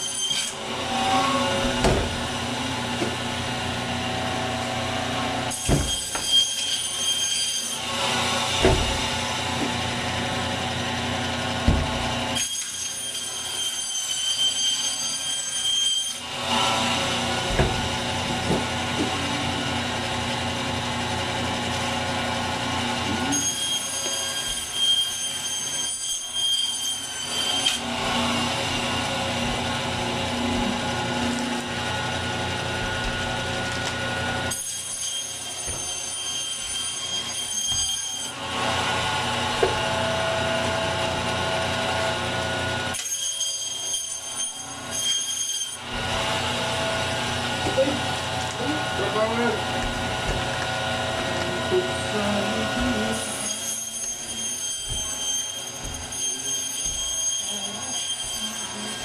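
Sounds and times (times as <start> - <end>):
bandsaw motor hum: 0.0 - 13.5, 16.2 - 43.1, 45.8 - 59.0
bandsaw blade whine: 0.0 - 59.0.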